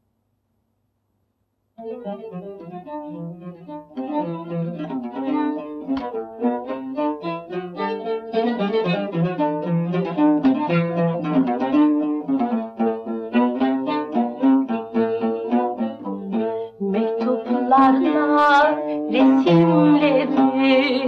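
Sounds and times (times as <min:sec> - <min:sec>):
plucked lute: 0:01.8 - 0:21.0
violin bowed notes: 0:01.8 - 0:21.0.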